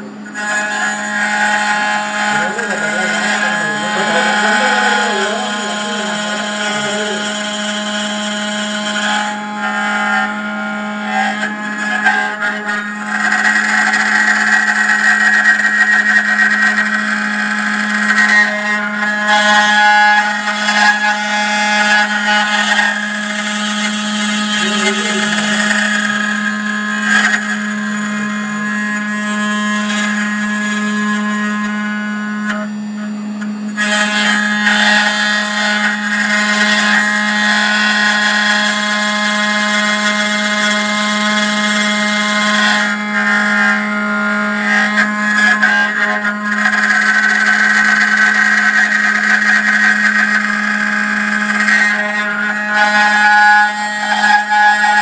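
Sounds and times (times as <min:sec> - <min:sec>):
machine spindle humming and whining: 0:00.0 - 0:55.0
tool cutting material: 0:00.0 - 0:55.0.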